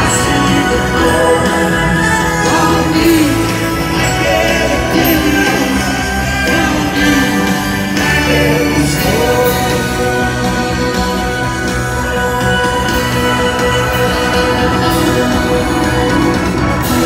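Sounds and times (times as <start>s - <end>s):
electric guitars: 0.0s - 17.0s
person singing lead vocal: 0.0s - 17.0s
rock band and string orchestra: 0.0s - 17.0s
violins: 0.0s - 17.0s.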